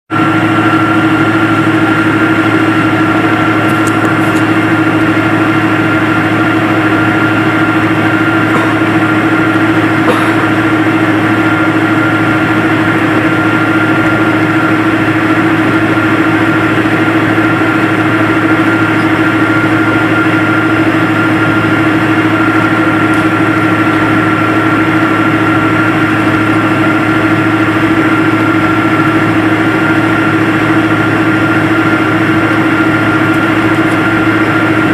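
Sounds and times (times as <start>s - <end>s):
jet engines in airliner cabin: 0.1s - 34.9s.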